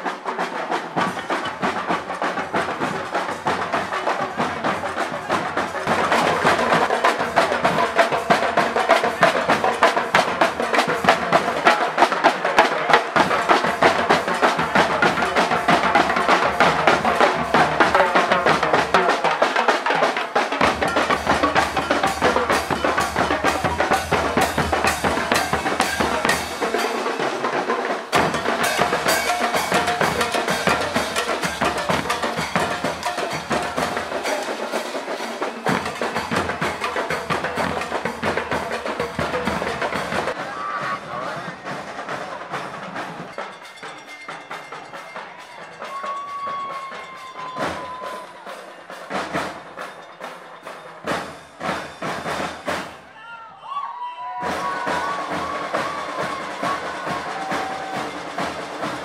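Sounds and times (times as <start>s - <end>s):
marching drums and cymbals: 0.0s - 53.4s, 54.2s - 59.0s.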